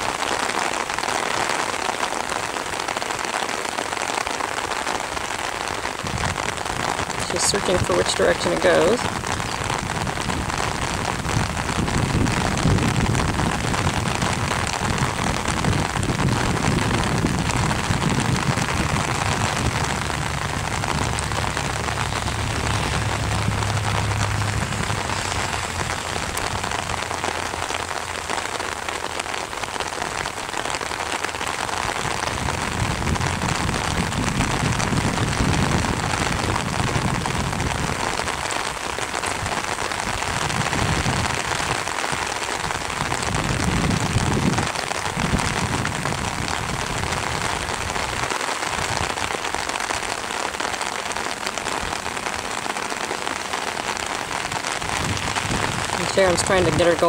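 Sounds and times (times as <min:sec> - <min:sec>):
heavy rain on an umbrella: 0:00.0 - 0:57.0
wind buffeting microphone: 0:06.0 - 0:57.0.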